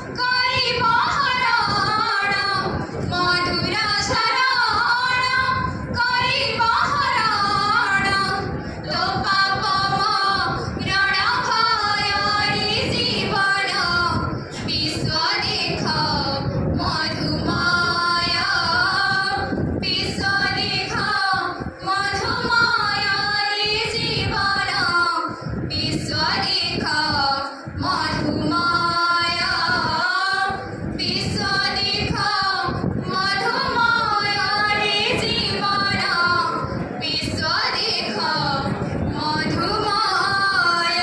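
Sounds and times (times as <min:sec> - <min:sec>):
women singing unaccompanied: 0:00.0 - 0:41.0.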